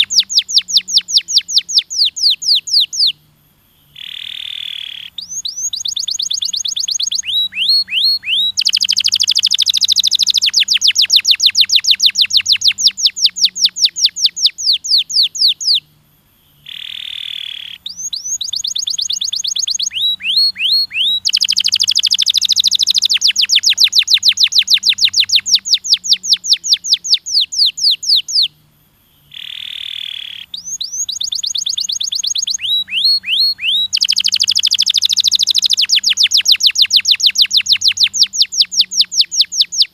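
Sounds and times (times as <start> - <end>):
canary singing with trills: 0.0 - 39.9.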